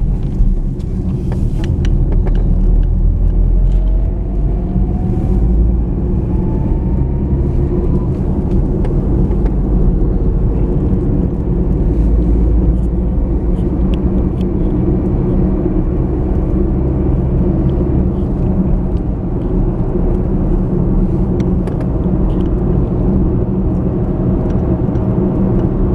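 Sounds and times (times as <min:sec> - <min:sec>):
car engine and road rumble: 0:00.0 - 0:25.9.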